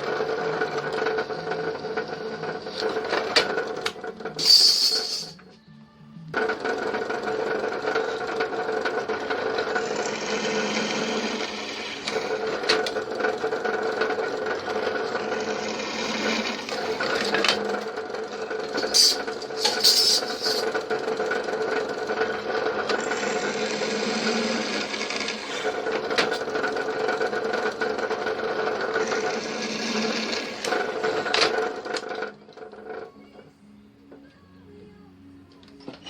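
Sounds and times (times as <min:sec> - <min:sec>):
stationary engine running: 0:00.0 - 0:05.4, 0:06.2 - 0:33.1.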